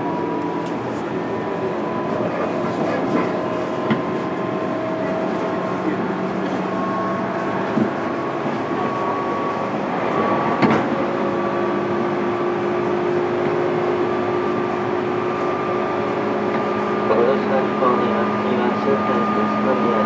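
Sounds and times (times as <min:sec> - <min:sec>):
rail running noise: 0:00.0 - 0:20.0
train motor hum: 0:00.0 - 0:20.0.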